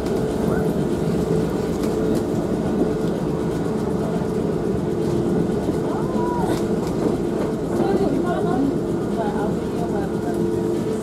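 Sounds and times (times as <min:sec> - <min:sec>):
tram running gear hum: 0:00.0 - 0:11.0
wheels rumbling on rails: 0:00.0 - 0:11.0.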